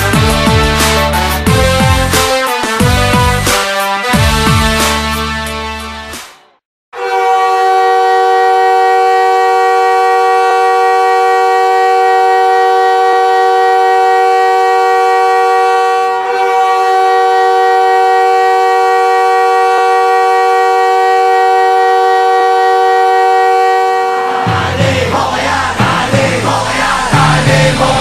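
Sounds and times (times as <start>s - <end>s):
goal horn blowing a chord: 0.0s - 6.3s, 7.0s - 25.3s.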